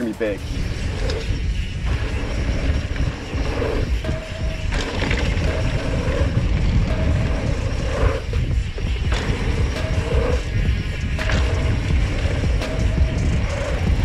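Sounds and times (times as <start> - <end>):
bike tyres rumbling on dirt: 0.0 - 14.0
wind buffeting microphone: 0.0 - 14.0.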